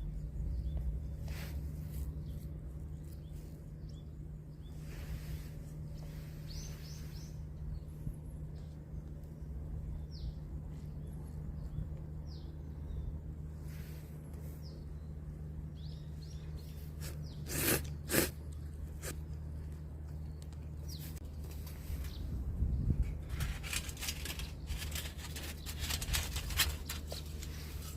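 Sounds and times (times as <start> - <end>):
low background hum: 0.0 - 27.9
small birds chirping: 0.0 - 27.9.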